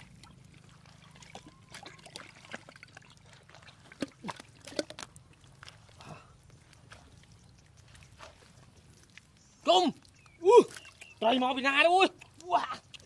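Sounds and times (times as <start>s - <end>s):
mud squelching: 0.0s - 13.0s.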